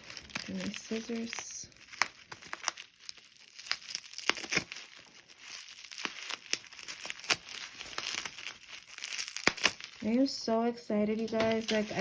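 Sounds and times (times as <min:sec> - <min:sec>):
scissors cutting plastic: 0:00.0 - 0:05.0, 0:05.6 - 0:10.1, 0:11.1 - 0:12.0
plastic packaging crinkling: 0:00.0 - 0:12.0.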